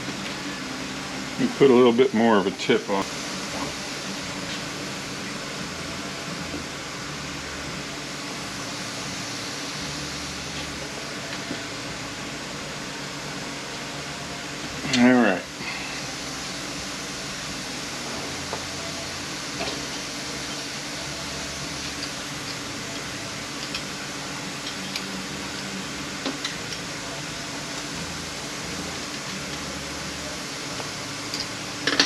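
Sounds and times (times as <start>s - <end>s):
fan humming and hissing: 0.0s - 32.0s.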